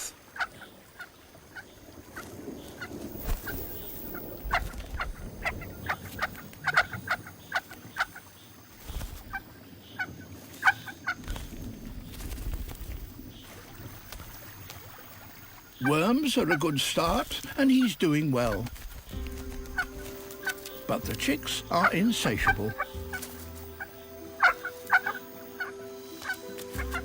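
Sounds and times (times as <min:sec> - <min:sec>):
nestling birds chirping: 0:00.0 - 0:27.0.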